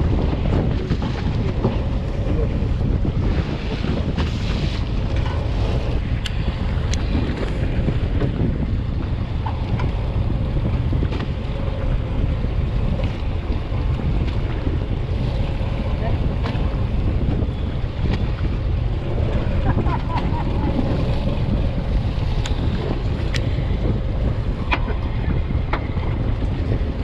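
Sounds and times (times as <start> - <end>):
water rushing around hull: 0.0 - 27.0
wind buffeting microphone: 0.0 - 27.0.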